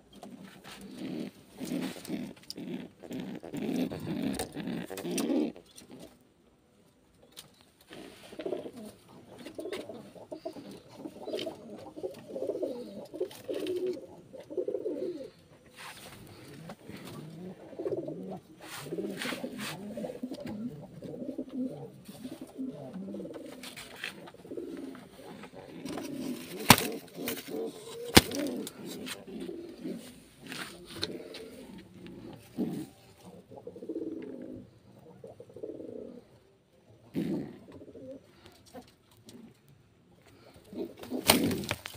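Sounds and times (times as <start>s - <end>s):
pigeon cooing: 0.0s - 6.2s, 7.9s - 41.9s.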